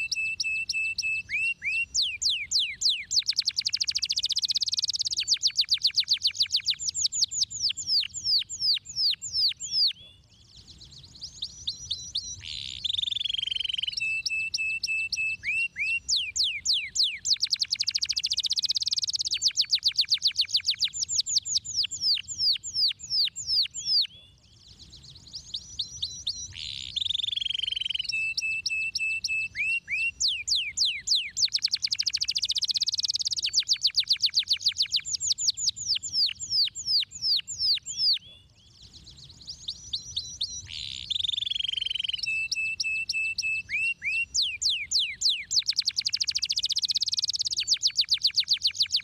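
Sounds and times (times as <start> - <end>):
canary singing trills: 0.0 - 49.0.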